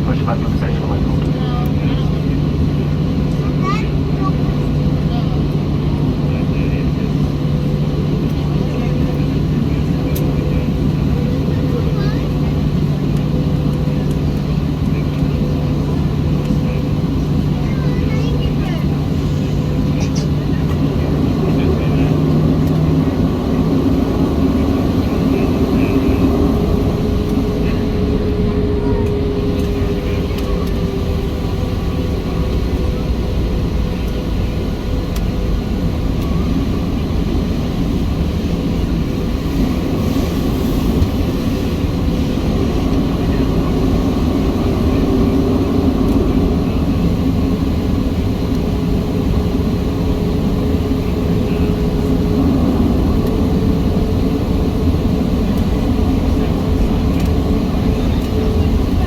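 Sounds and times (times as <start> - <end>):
aircraft rolling noise: 0.0 - 59.0
jet engines at low power: 0.0 - 59.0.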